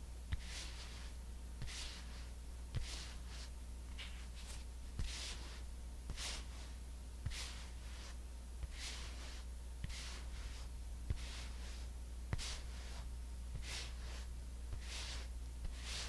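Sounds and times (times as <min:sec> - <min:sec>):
soft brushing swishes: 0:00.0 - 0:16.0
steady low hum: 0:00.0 - 0:16.0.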